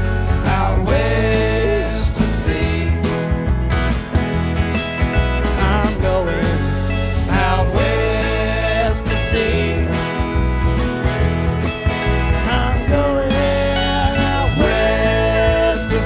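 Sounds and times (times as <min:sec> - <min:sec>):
bass line: 0:00.0 - 0:16.0
bending lead melody: 0:00.0 - 0:16.0
live country band playing: 0:00.0 - 0:16.0.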